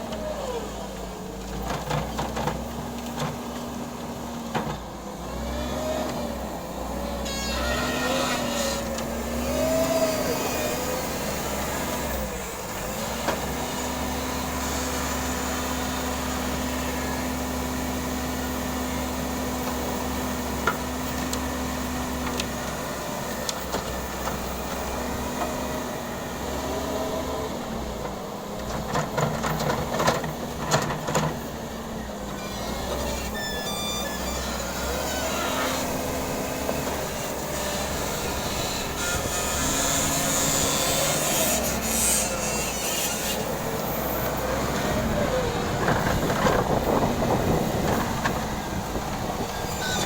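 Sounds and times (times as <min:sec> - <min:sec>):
heavy machine engine running: 0:00.0 - 0:42.5, 0:43.3 - 0:50.0.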